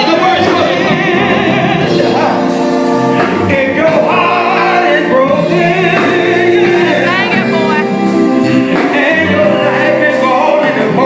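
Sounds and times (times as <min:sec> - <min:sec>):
male vocal group singing in harmony: 0:00.0 - 0:11.0.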